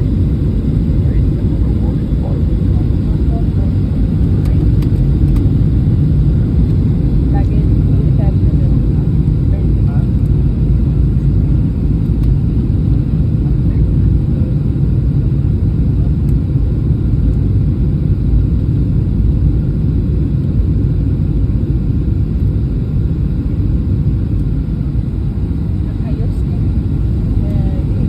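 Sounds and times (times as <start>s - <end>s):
airliner engines rumbling: 0.0s - 28.0s.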